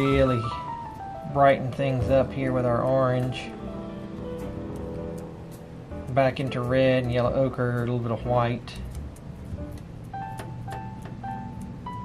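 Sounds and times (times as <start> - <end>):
light melody over soft beat: 0.0 - 12.0.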